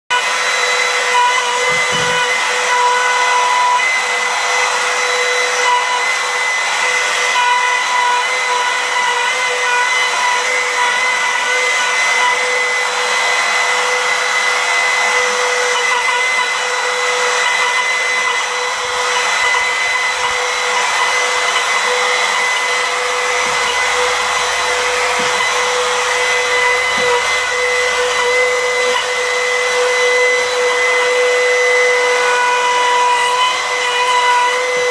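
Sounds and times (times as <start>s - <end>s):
router bit cutting wood: 0.1s - 34.9s
router whining: 0.1s - 34.9s.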